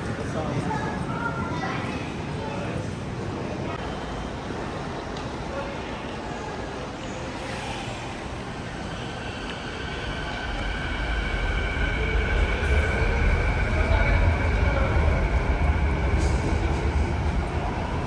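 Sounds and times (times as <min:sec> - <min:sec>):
metro train passing: 0:00.0 - 0:18.0.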